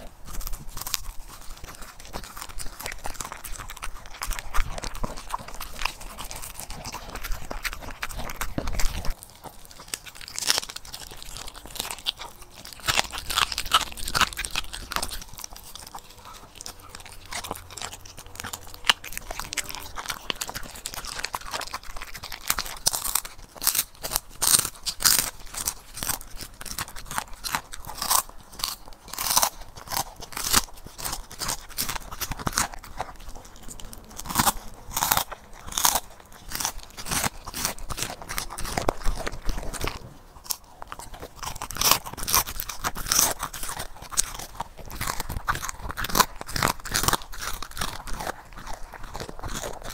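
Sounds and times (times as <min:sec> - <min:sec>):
dog crunching fish: 0:00.0 - 0:49.9.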